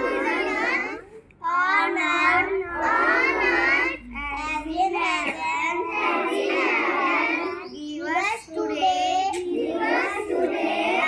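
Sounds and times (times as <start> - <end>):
children singing a prayer: 0.0 - 11.0.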